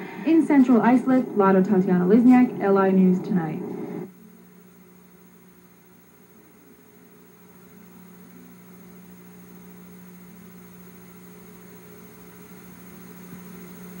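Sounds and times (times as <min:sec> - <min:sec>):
faint hiss: 0:00.0 - 0:14.0
low electrical hum: 0:00.0 - 0:14.0.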